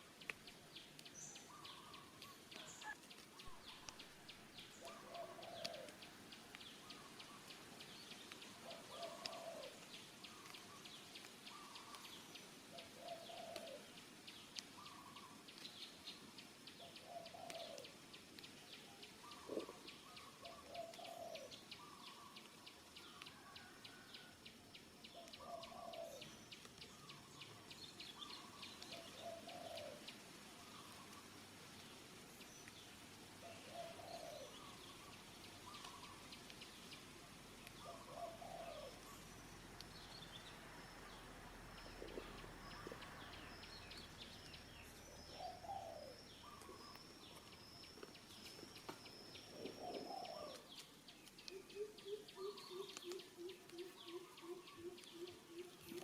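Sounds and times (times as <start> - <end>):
faint bird calls: 0.0 - 24.3, 25.1 - 31.5, 32.4 - 56.0.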